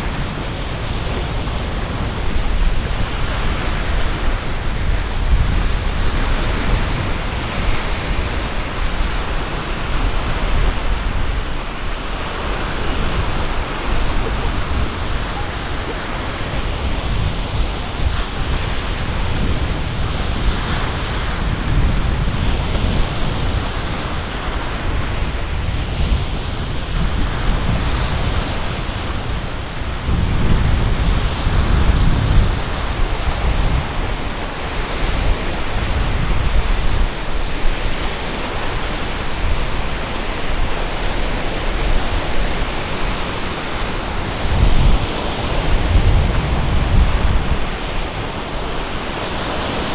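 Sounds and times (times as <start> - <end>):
lake waves washing against shore: 0.0 - 49.9
wind buffeting microphone: 0.0 - 49.9.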